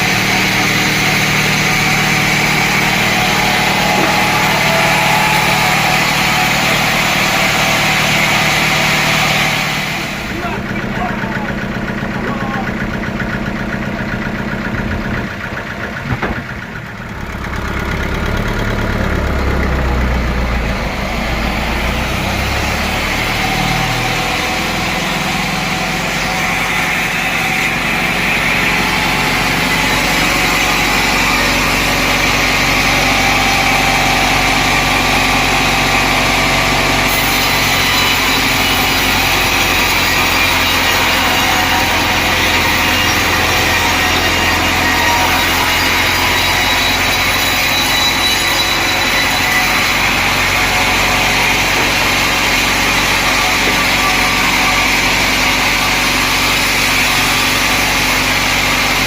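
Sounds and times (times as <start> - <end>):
saw cutting wood: 0.0 - 12.9, 17.0 - 59.0
sawmill engine running: 0.0 - 59.0.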